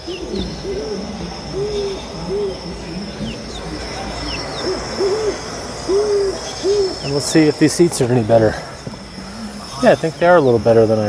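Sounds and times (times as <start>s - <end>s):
soft owl-like hoots: 0.0s - 10.2s
high insect-like trill: 0.0s - 11.0s.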